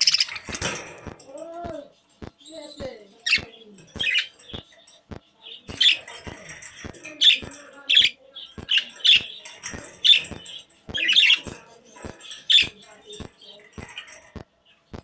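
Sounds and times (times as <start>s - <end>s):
budgerigars chirping: 0.0s - 15.0s
sharp ticks: 0.0s - 15.0s.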